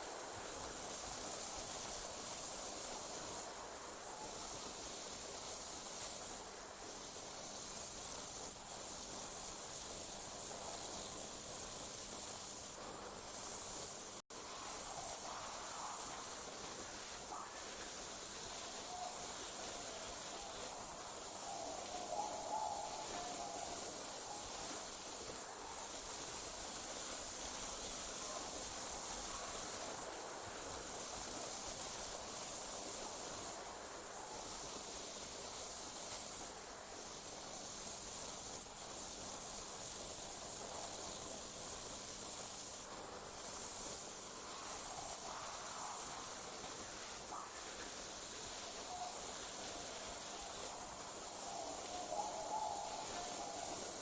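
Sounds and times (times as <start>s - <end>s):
crickets trilling: 0.1s - 54.0s.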